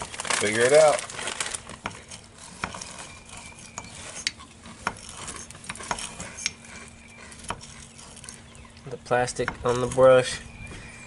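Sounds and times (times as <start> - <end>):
brush scraping metal part: 0.0 - 11.0.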